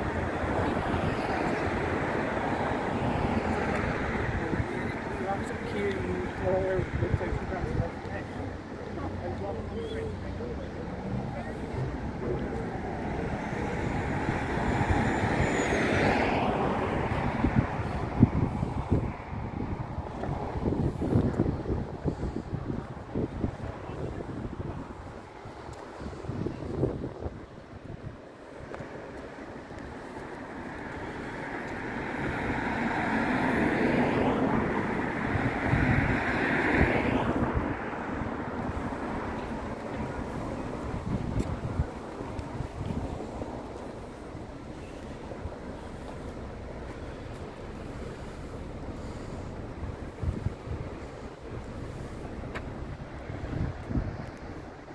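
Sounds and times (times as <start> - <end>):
car passing: 0.0 - 54.9
wind buffeting microphone: 0.0 - 54.9.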